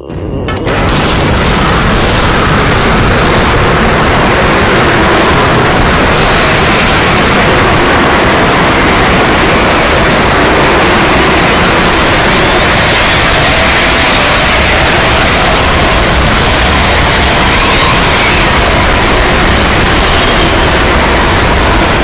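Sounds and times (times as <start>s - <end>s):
static-like rushing noise: 0.6s - 22.0s.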